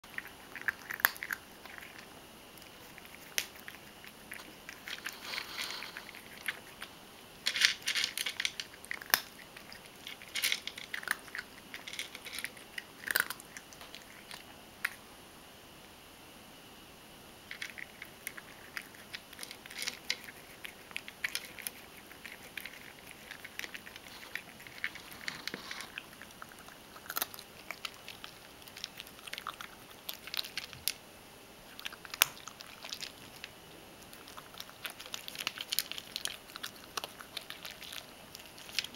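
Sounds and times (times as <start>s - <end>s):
cat crunching dry kibble: 0.0s - 15.0s, 17.5s - 31.0s, 31.6s - 38.9s.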